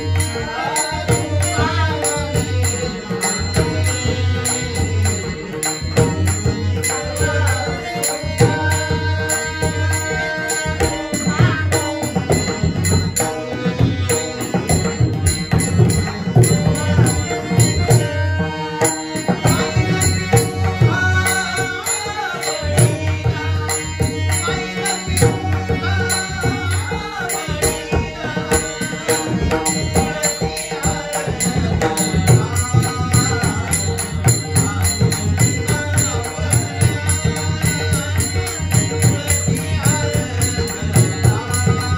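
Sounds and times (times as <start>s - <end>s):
person singing devotional melody: 0.0s - 41.9s.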